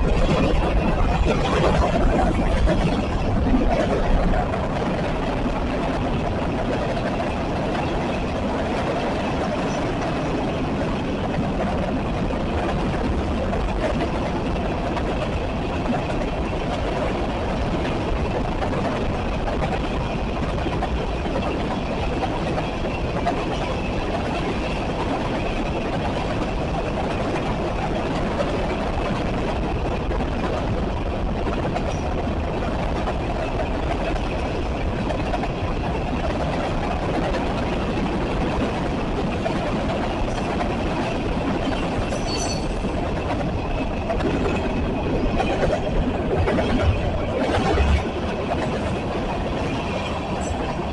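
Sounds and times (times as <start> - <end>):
train passing with rumble: 0.0 - 50.9.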